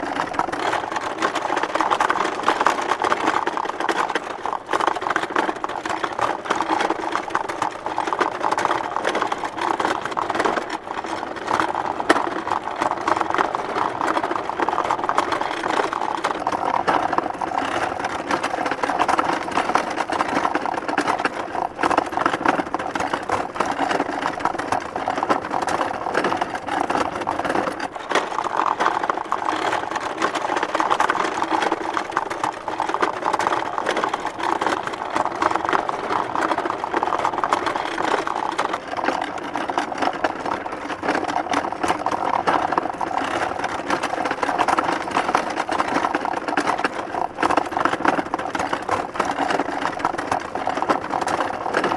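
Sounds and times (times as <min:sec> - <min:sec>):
wooden handcart rattling on dirt road: 0:00.0 - 0:51.9.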